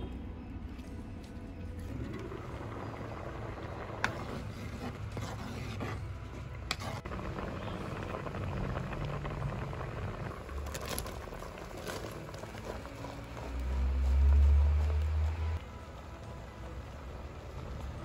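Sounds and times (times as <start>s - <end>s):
liquid boiling in a clay pot: 0.9s - 18.0s.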